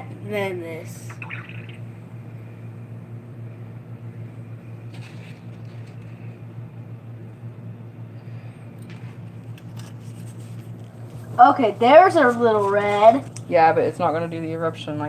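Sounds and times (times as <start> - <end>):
appliance humming: 0.0 - 15.0.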